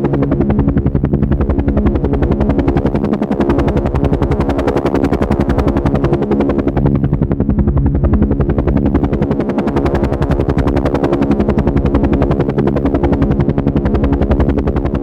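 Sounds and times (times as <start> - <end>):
helicopter engine hum: 0.0 - 15.0
helicopter rotor beating: 0.0 - 15.0.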